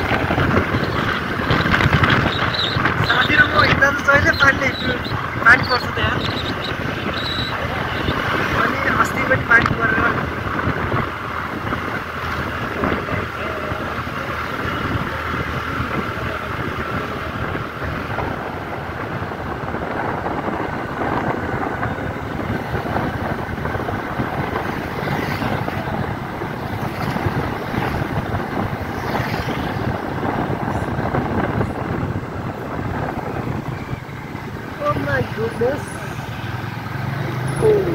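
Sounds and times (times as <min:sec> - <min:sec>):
scooter engine: 0:00.0 - 0:37.9
wind on microphone: 0:00.0 - 0:37.9.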